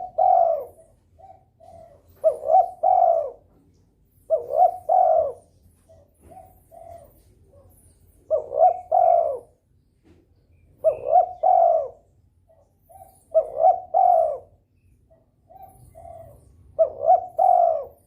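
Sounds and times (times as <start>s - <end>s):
dove cooing: 0.0s - 9.6s, 10.7s - 18.0s.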